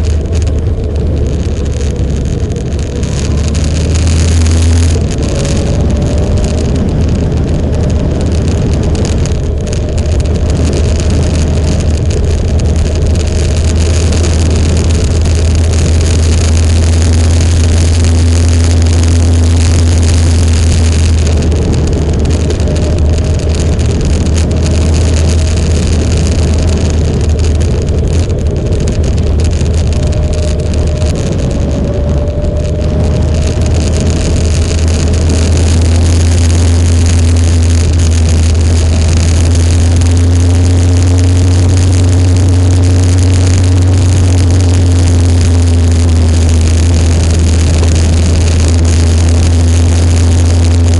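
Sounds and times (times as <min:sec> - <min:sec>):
motorcycle engine cruising: 0:00.0 - 0:50.9
wind noise on microphone: 0:00.0 - 0:50.9.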